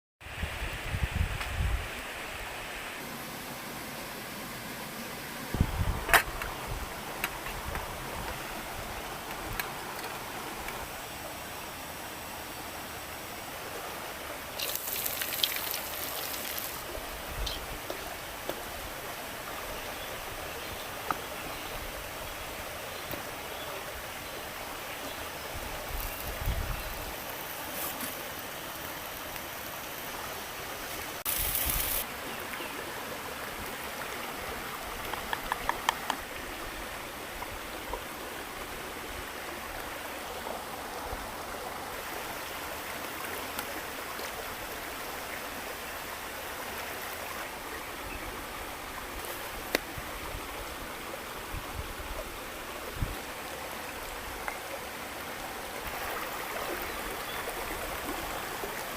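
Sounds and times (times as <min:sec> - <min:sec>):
stream water flowing: 0:00.2 - 0:58.9.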